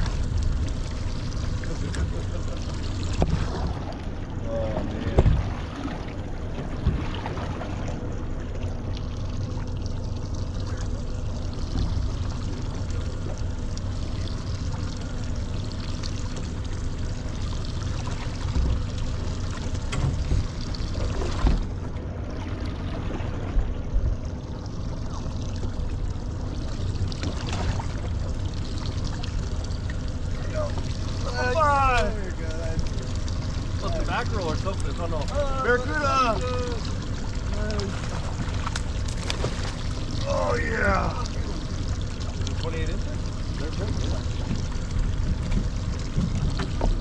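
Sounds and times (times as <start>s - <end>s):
water sloshing against boat hull: 0.0s - 47.0s.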